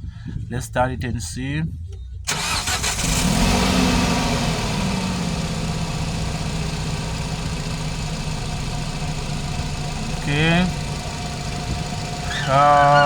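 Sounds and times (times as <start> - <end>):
car engine revving then idling: 2.3 - 13.0.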